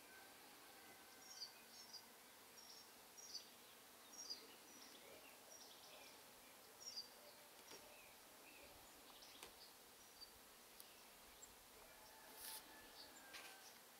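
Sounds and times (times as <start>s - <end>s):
low steady hiss: 0.0s - 13.9s
songbirds chirping: 0.0s - 13.9s.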